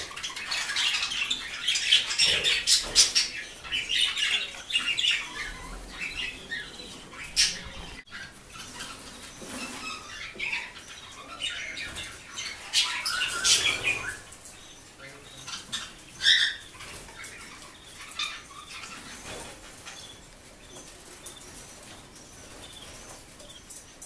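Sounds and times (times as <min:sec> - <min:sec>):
parrots squawking and chirping: 0:00.0 - 0:23.8.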